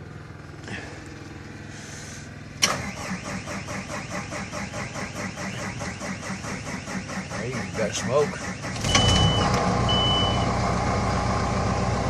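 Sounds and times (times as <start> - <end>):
diesel engine cranking and starting: 0.0 - 12.0.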